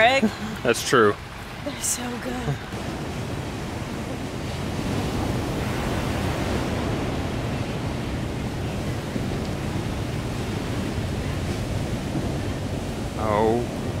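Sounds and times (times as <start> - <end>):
surf breaking on beach: 0.0 - 14.0
wind rumbling on microphone: 0.0 - 14.0.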